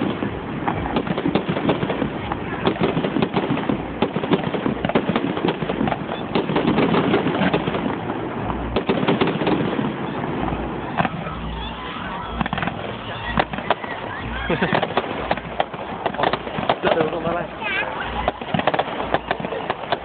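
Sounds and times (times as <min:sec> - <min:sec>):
constant rumble: 0:00.0 - 0:20.0
deep firework booms: 0:00.0 - 0:20.0
fireworks crackling pops: 0:00.0 - 0:20.0.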